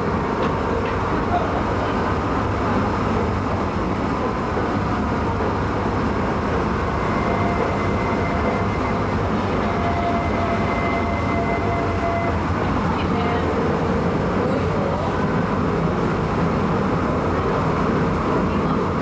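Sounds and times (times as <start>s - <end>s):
railway car wheels rumbling: 0.0s - 19.0s.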